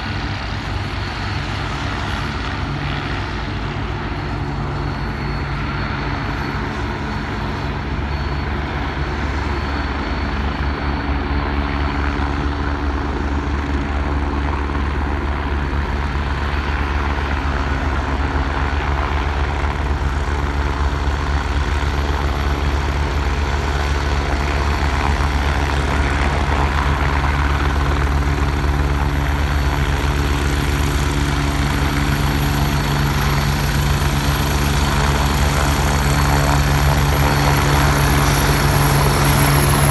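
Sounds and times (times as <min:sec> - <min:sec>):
helicopter flying: 0:00.0 - 0:39.9.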